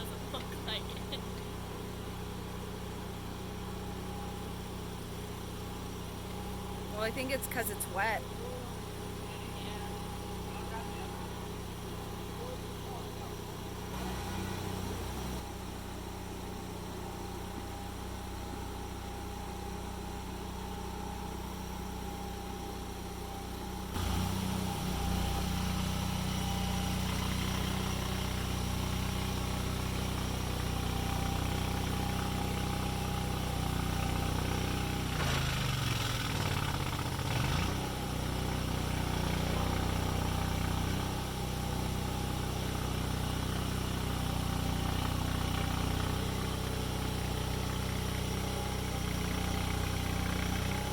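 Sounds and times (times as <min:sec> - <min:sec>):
small engine running: 0:00.0 - 0:50.9.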